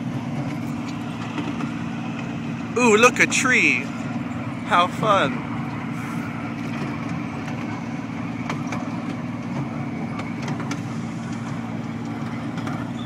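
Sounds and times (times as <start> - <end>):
mini train engine hum: 0.0 - 13.0.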